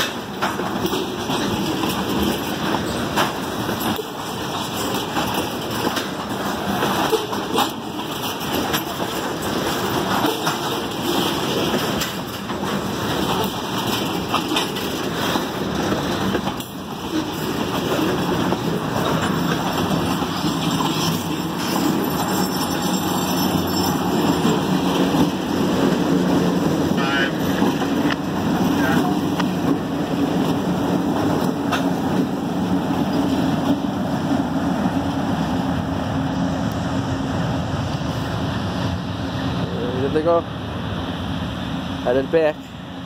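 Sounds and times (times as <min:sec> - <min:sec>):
diesel locomotive engine: 0:00.0 - 0:43.0
steel wheels rumbling and knocking: 0:00.0 - 0:43.0.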